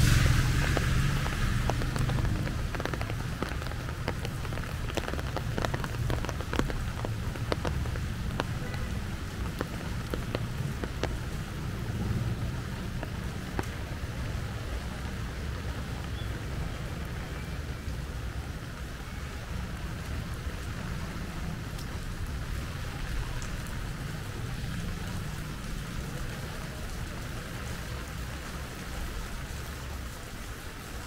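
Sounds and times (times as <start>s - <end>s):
raindrops ticking: 0.0s - 31.0s.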